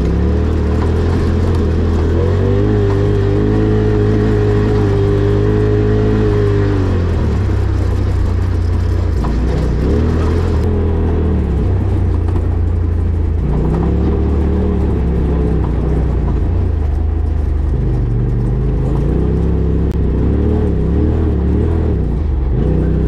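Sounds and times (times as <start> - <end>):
rally car engine revving: 0.0 - 23.0
tyres rumbling on dirt: 0.0 - 23.0.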